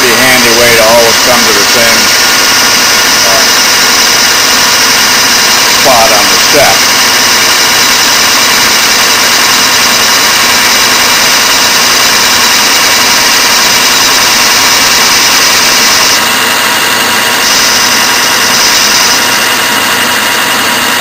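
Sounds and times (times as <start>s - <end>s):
lathe motor hum: 0.0s - 21.0s
wood being cut on a lathe: 0.0s - 21.0s.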